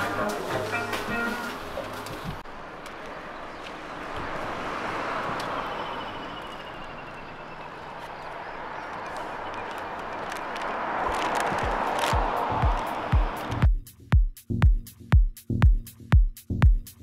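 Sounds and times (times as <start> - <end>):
car approaching: 0.0 - 13.7
road traffic passing: 0.0 - 13.7.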